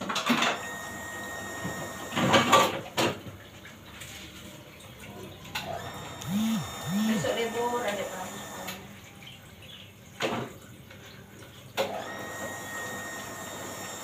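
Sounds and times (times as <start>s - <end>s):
running water: 1.7s - 14.0s.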